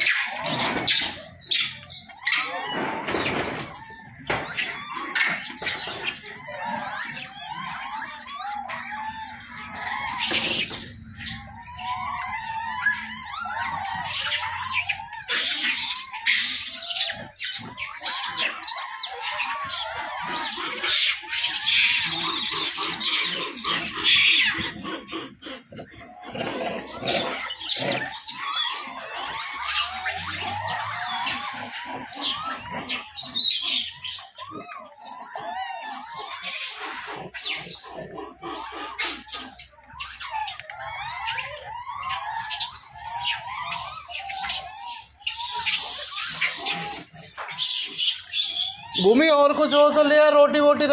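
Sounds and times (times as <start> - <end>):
monkeys squeaking and screaming: 0.0 - 50.9.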